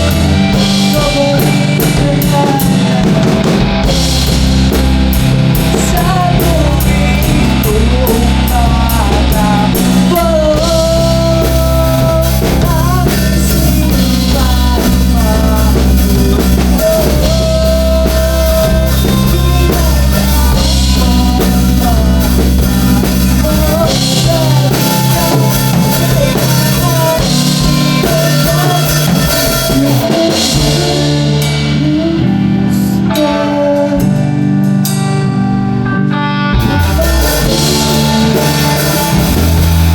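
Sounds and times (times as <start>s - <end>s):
deep bass guitar: 0.0s - 39.9s
rock band music: 0.0s - 39.9s.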